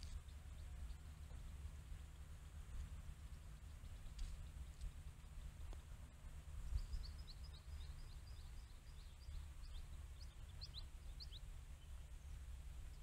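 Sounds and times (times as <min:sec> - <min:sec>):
small bird chirping: 0:00.0 - 0:02.4, 0:03.1 - 0:05.9, 0:06.6 - 0:13.0.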